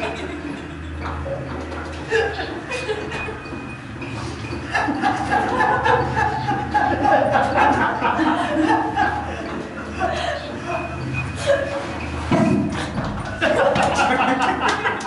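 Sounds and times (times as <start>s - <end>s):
group of people laughing: 0.0s - 15.0s.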